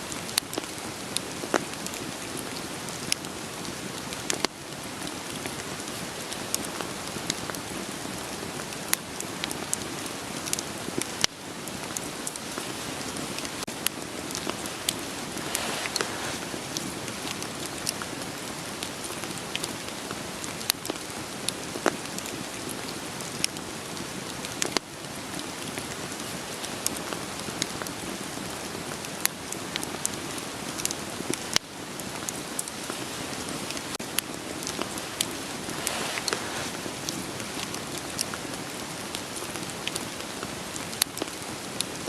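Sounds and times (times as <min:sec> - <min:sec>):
campfire crackling and popping: 0:00.1 - 0:42.0
rain hissing: 0:00.1 - 0:42.0.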